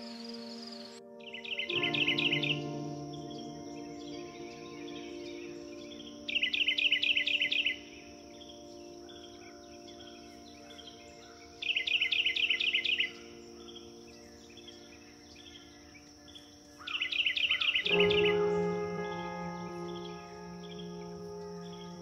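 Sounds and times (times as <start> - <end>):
ambient music of held tones: 0.0 - 22.0.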